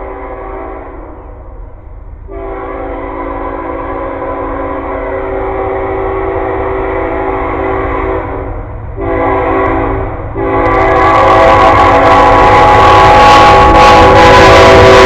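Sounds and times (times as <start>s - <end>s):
locomotive air horn blasts: 0.0s - 1.4s, 2.3s - 15.0s
low rumble of train: 0.0s - 15.0s.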